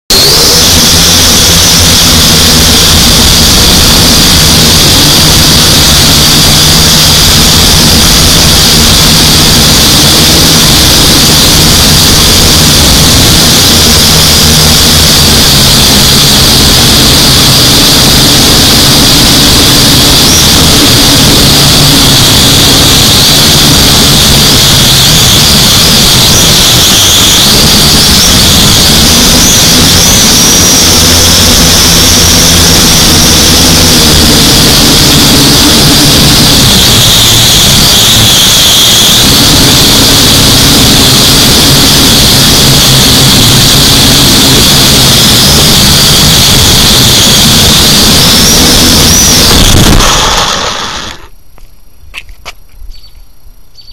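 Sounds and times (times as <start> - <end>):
drone motors whining: 0.0 - 51.7.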